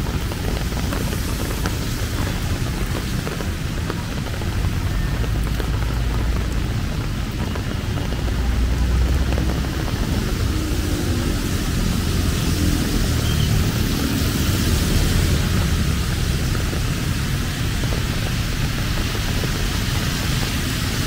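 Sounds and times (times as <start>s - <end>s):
heavy rain on an umbrella: 0.0s - 21.0s
low rumble of passing traffic: 0.0s - 21.0s.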